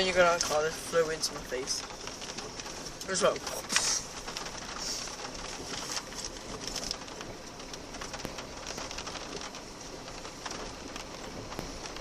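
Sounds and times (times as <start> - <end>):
small ticks and clicks: 0.1 - 12.0.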